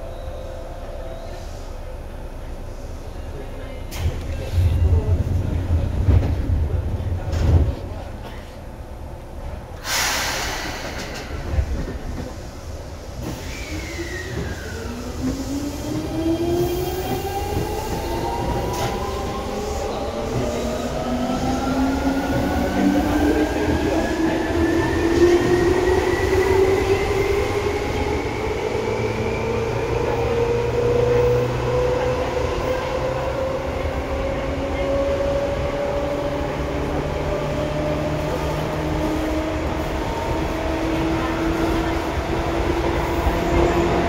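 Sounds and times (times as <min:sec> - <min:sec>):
wheels rumbling on rail: 0:00.0 - 0:44.0.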